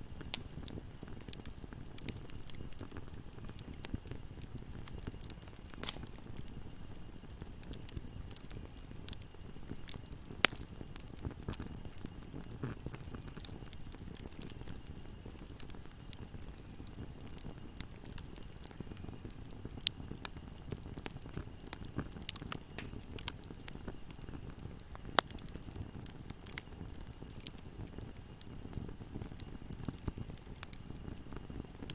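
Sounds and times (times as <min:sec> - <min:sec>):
fire popping: 0:00.0 - 0:31.9
wood fire crackling: 0:00.0 - 0:31.9.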